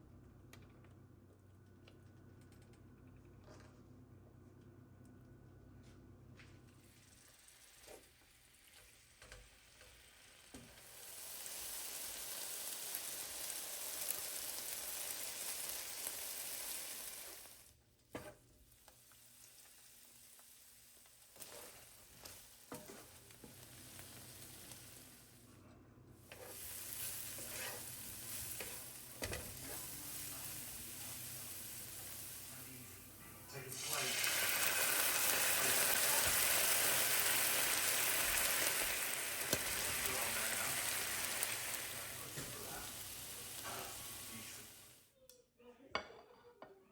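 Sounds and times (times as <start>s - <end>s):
food sizzling in frying pan: 6.8s - 25.5s, 26.2s - 45.1s.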